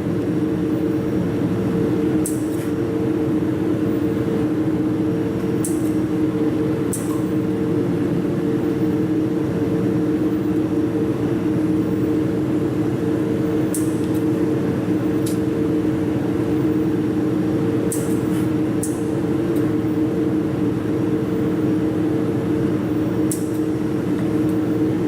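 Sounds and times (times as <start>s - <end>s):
welding machine two-tone hum: 0.0s - 25.0s.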